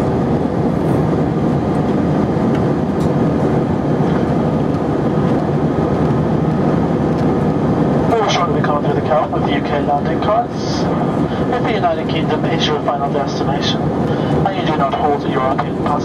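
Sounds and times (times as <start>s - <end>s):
faint steady whine: 0.0s - 16.0s
jet cabin engine and airflow noise: 0.0s - 16.0s.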